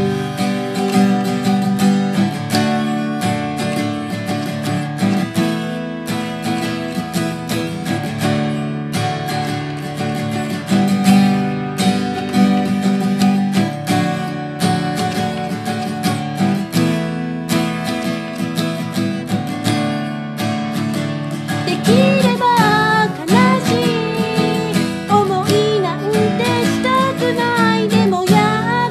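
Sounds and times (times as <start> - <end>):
acoustic guitar strumming chords: 0.0 - 28.9.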